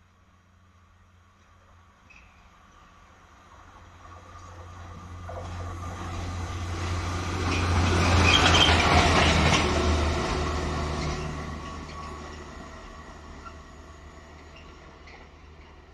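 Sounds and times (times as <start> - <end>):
wheel on rail noise: 0.0 - 15.9.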